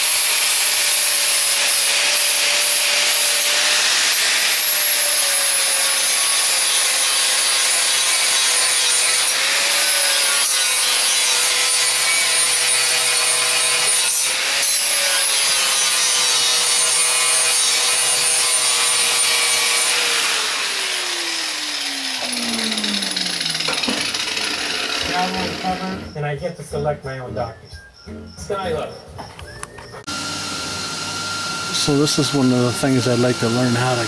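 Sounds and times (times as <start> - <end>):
angle grinder grinding metal: 0.0 - 26.2, 30.0 - 34.0.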